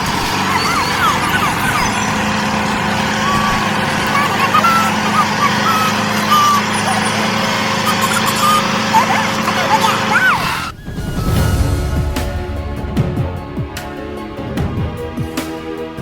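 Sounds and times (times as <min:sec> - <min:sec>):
motor droning: 0:00.0 - 0:15.2.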